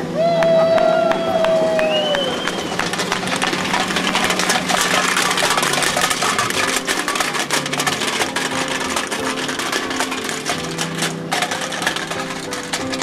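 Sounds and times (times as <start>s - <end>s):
car engine hum: 0.0s - 13.0s
tin cans rattling on road: 1.9s - 13.0s.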